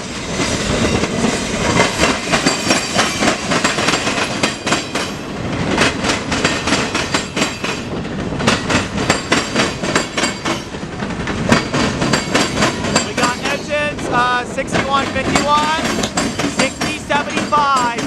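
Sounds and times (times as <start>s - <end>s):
train rumble: 0.0s - 18.0s
train wheels clacking on track: 0.0s - 18.0s.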